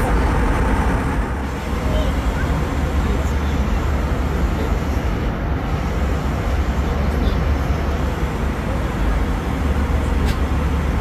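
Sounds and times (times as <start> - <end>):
aircraft engine rumble: 0.0 - 11.0.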